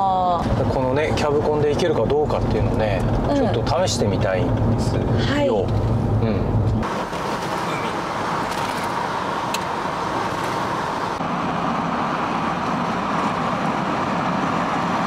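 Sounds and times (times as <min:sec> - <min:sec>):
tyre and wind road noise: 0:00.0 - 0:15.0.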